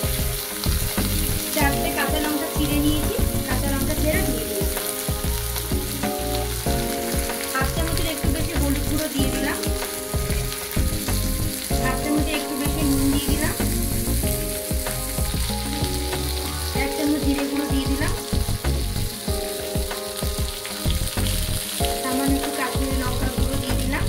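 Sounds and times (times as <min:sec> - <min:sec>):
soft background music: 0:00.0 - 0:24.0
vegetables sizzling in oil: 0:00.0 - 0:24.0.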